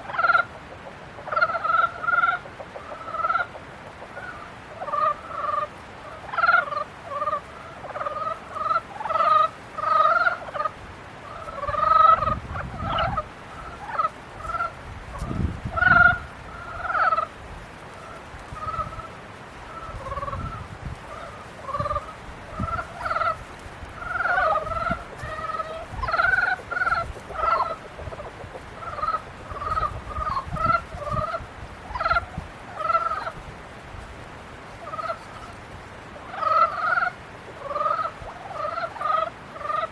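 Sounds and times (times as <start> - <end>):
frogs croaking: 0.0 - 33.4, 34.6 - 39.9.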